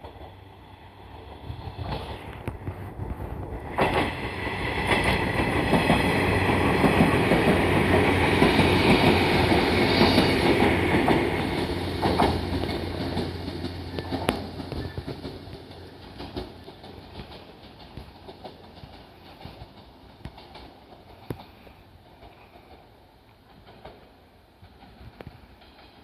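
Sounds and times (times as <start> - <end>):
electric train passing: 0.0 - 26.0
wheels clacking over rail joints: 0.0 - 26.0.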